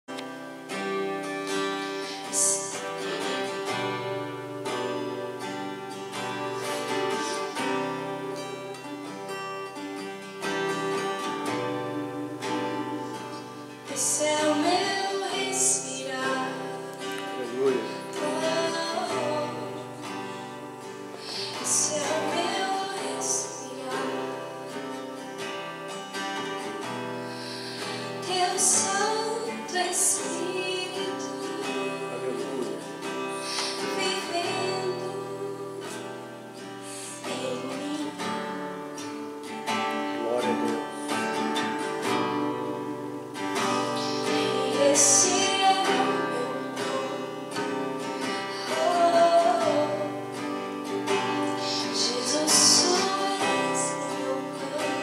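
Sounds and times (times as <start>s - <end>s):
acoustic guitar strumming: 0.0s - 55.0s
woman singing worship song: 0.1s - 9.4s, 10.2s - 55.0s.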